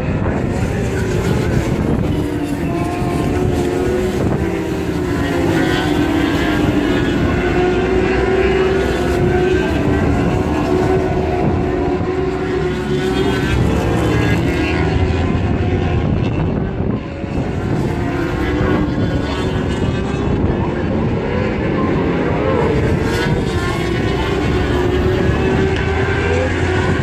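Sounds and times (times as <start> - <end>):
racing motorcycle engines: 0.0 - 27.0.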